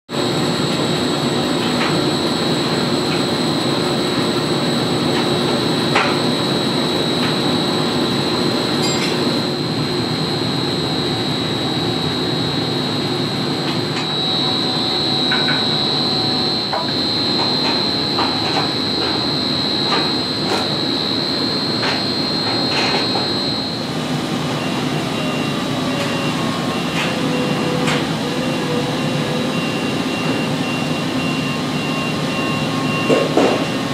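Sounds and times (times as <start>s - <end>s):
high machine whine: 0.1s - 33.9s
machinery drone: 0.2s - 33.9s.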